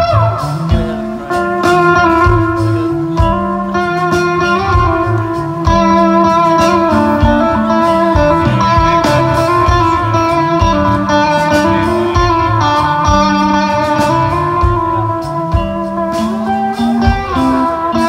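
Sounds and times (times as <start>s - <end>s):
bass line: 0.0s - 18.0s
drums: 0.0s - 18.0s
electric guitar: 0.0s - 18.0s.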